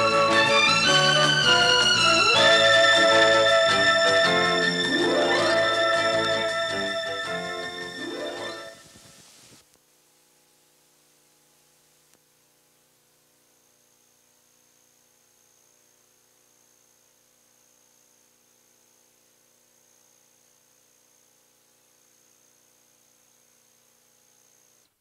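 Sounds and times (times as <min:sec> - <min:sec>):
faint tape hiss: 0:00.0 - 0:25.0.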